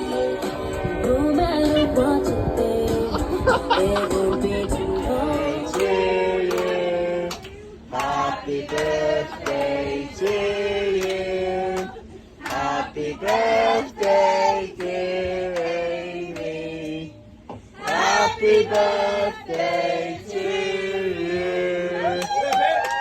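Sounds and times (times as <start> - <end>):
voices singing: 0.0 - 22.3.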